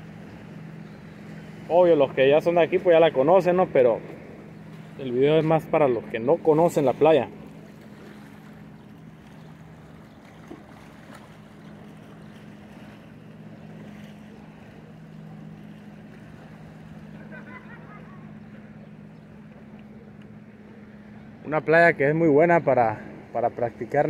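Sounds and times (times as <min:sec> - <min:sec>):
low motor hum: 0:00.0 - 0:24.0
water: 0:00.0 - 0:24.0
wind: 0:00.0 - 0:24.0.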